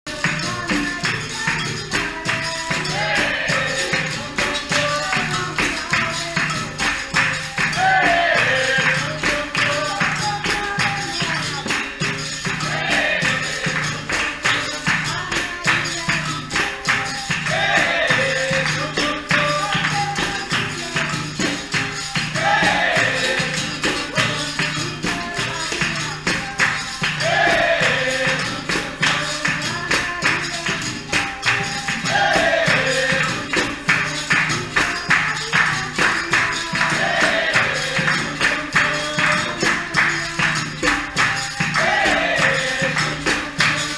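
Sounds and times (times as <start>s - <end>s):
tambourine and percussion rhythm: 0.0s - 43.9s
voices singing: 0.1s - 43.9s.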